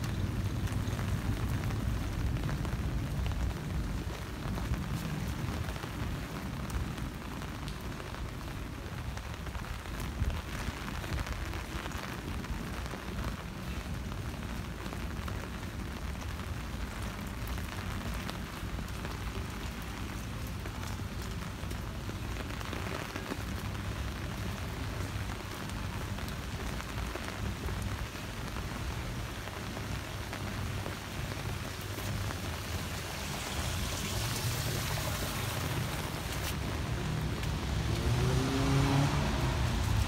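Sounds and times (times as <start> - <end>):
rain on street: 0.0 - 40.0.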